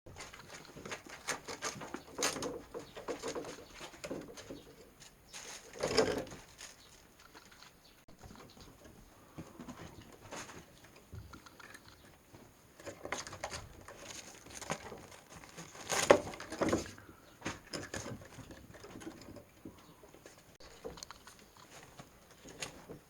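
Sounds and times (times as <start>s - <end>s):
kittens scuffling: 0.1s - 23.0s
scratching: 0.1s - 23.0s.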